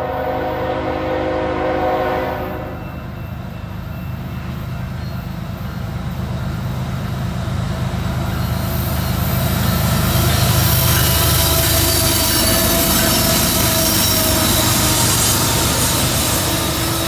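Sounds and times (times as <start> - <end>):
locomotive engines rumbling: 0.0 - 17.0
wheels on rails: 2.9 - 17.0.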